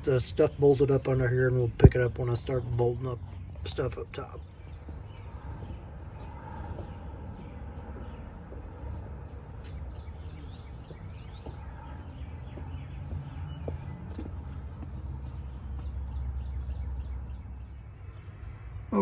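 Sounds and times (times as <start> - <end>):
steady low rumble: 0.0 - 18.9
small birds chirping: 0.0 - 19.0.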